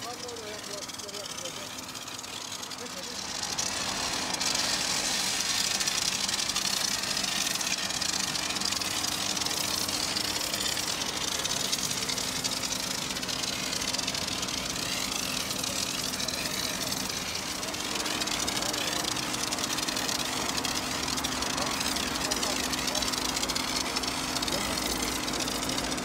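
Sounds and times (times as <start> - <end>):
pressure washer jet hissing: 0.0 - 26.0.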